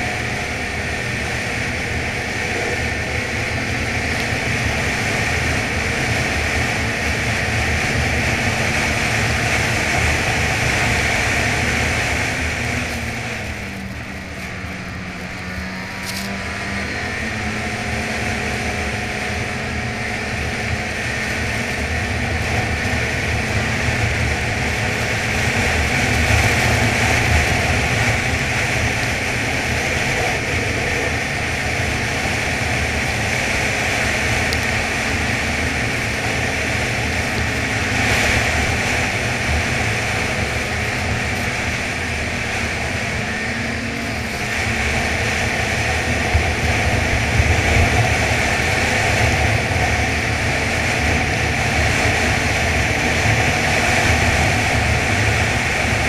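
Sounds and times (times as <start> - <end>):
snowmobile engine drone: 0.0 - 56.0.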